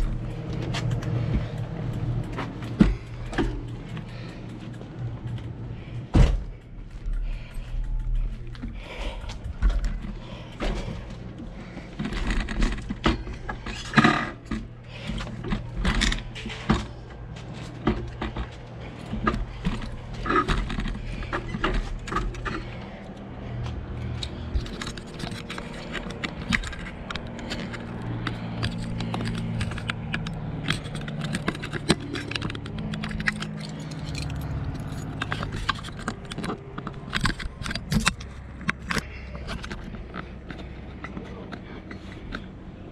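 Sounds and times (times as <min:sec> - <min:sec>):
bicycle clicks and jangles: 0:00.0 - 0:42.6
low hum: 0:00.0 - 0:42.9.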